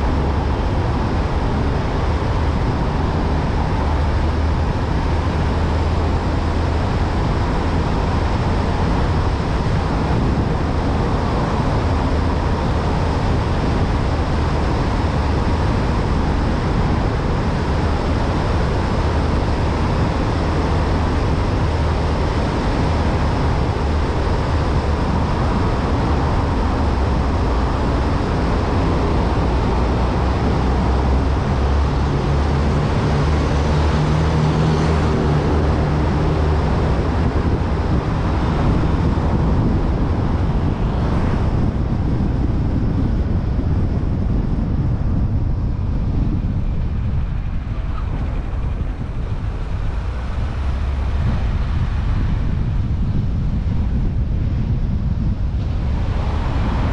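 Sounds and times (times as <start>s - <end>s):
car road noise in tunnel: 0.0s - 56.9s.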